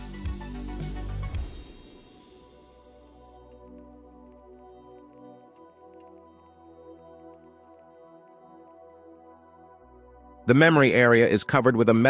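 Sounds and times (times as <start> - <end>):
soft synth background music: 0.0 - 12.0.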